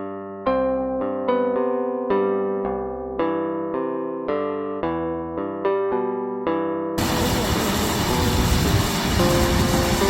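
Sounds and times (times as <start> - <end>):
electric piano chords: 0.0 - 10.0.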